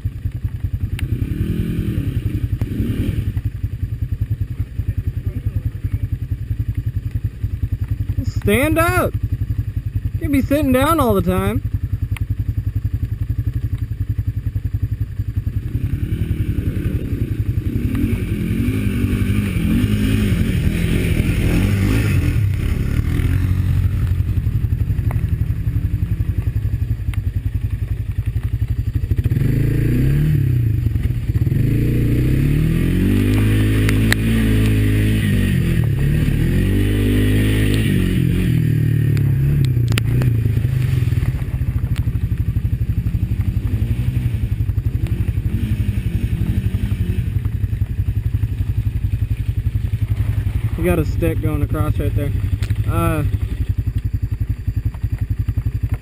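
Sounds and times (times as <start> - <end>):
atv engine revving under load: 0.0 - 56.0.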